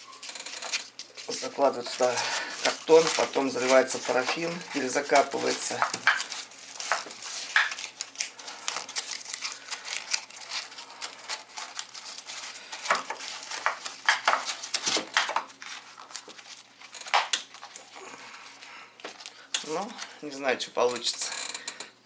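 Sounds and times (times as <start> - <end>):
cardboard crinkling and rustling: 0.0 - 20.3.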